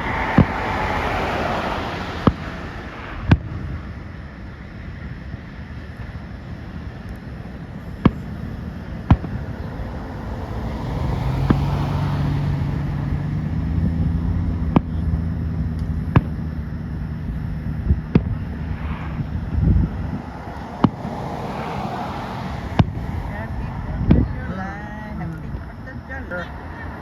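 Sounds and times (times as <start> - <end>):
fireworks bangs: 0.0 - 15.2, 18.0 - 25.9
vehicle engine hum: 0.0 - 27.0.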